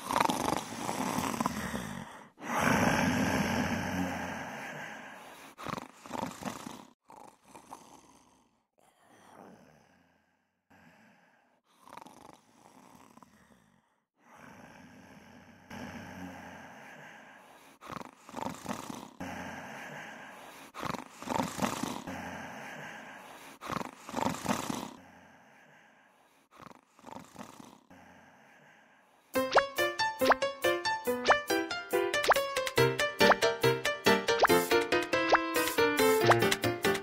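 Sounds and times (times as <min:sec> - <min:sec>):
cartoon animal purring and growling: 0:00.0 - 0:17.2, 0:17.8 - 0:25.3, 0:26.5 - 0:28.5, 0:29.4 - 0:31.5, 0:32.2 - 0:37.0.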